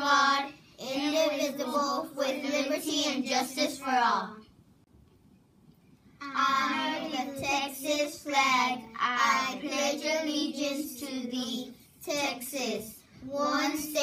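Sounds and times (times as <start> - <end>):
children reciting in unison: 0.0 - 4.4, 6.2 - 14.0.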